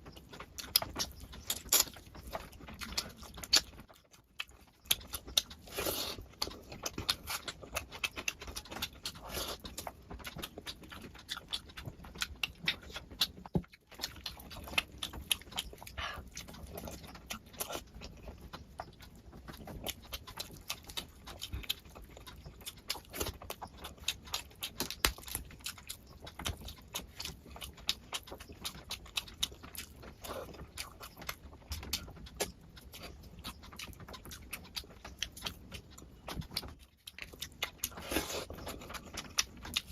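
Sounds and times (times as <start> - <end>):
person chewing and smacking: 0.0 - 39.9.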